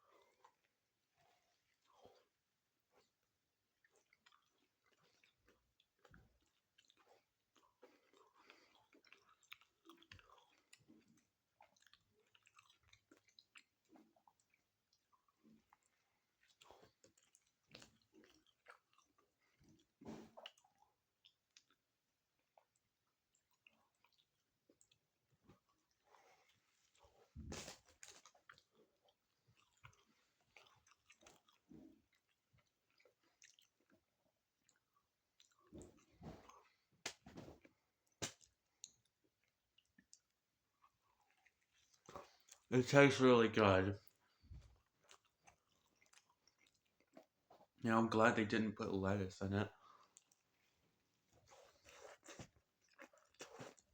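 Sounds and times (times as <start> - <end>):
chewing with wet mouth clicks: 0.1 - 42.7, 44.0 - 47.8, 49.8 - 53.9.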